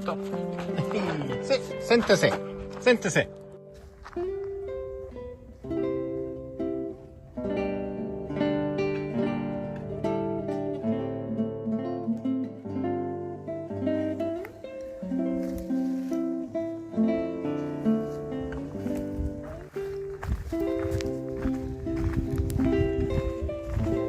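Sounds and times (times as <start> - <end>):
acoustic guitar melody: 0.0 - 24.0.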